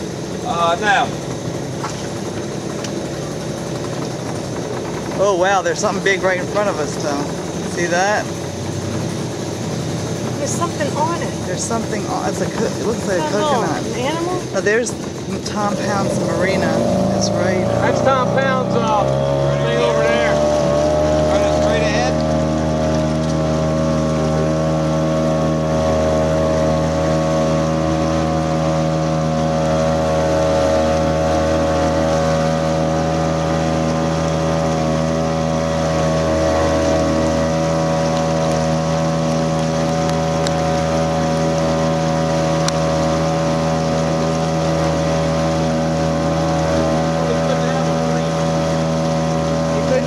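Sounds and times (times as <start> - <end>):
boat motor droning: 0.0 - 50.0.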